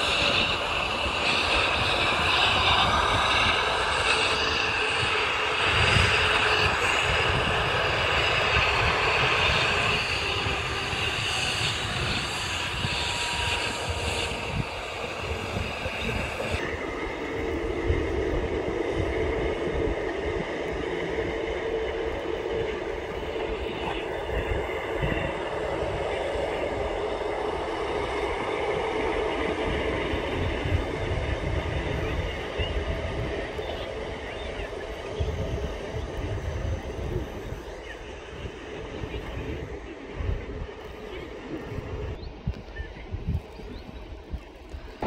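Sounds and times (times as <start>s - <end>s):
jet engines whining: 0.0s - 45.0s.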